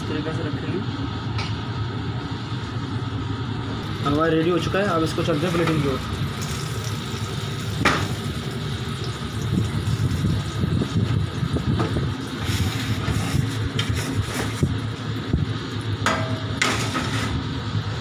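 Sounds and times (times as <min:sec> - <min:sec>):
low mechanical kitchen rumble: 0:00.0 - 0:18.0.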